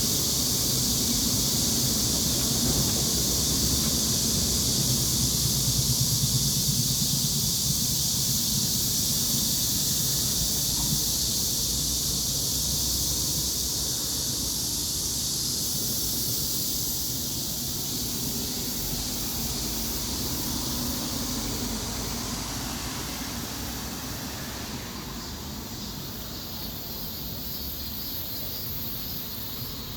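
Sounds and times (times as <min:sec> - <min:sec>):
continuous high hiss: 0:00.0 - 0:29.9.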